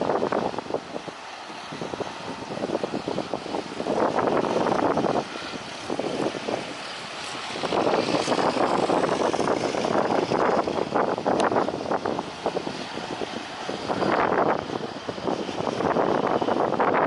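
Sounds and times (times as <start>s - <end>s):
propeller aircraft engine running: 0.0s - 17.0s
wind buffeting microphone: 0.0s - 17.0s.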